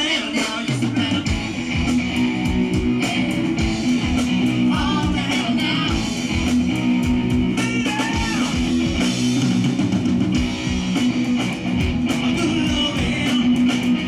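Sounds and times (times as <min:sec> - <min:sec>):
drums keeping a steady beat: 0:00.0 - 0:14.0
electric guitars: 0:00.0 - 0:14.0.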